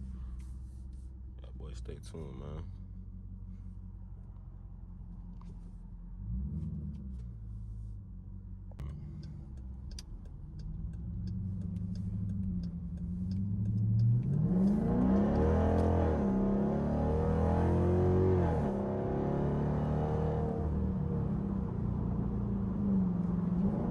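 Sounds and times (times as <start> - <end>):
car exhaust running and revving: 0.0 - 23.9.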